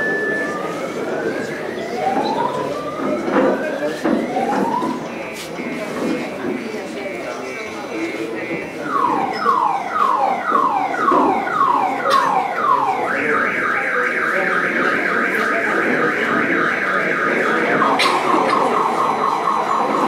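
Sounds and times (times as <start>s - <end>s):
car alarm siren: 0.0s - 20.0s.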